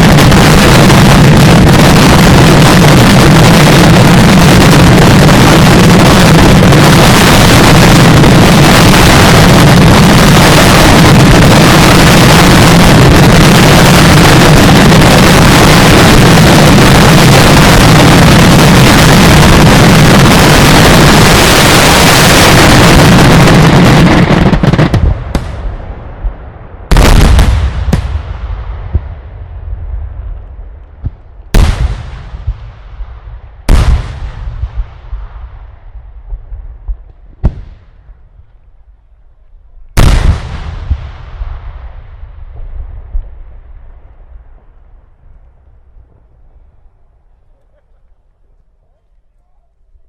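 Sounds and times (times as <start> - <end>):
fireworks aerial bombs: 0.0 - 48.4.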